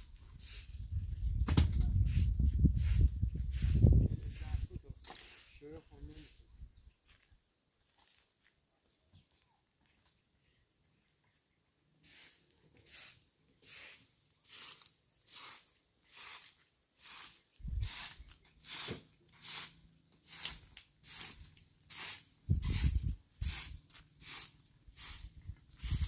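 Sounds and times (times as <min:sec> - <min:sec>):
broom sweeping dirt ground: 0:00.0 - 0:07.2, 0:12.0 - 0:26.0.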